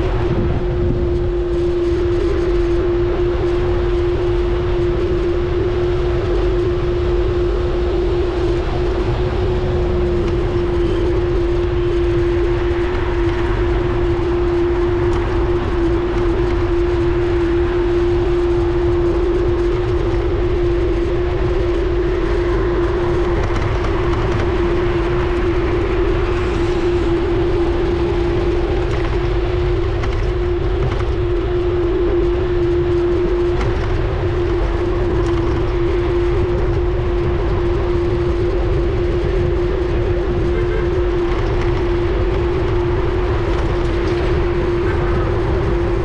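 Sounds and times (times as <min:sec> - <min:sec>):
steady hum: 0:00.0 - 0:46.0
wind rumbling on microphone: 0:00.0 - 0:46.0.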